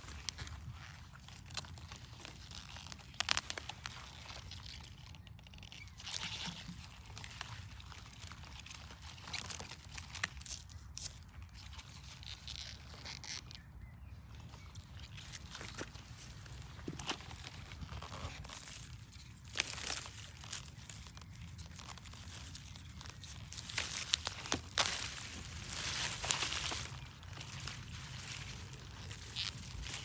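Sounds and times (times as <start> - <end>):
dry onion skins crunching: 0.0 - 13.7, 14.8 - 30.0.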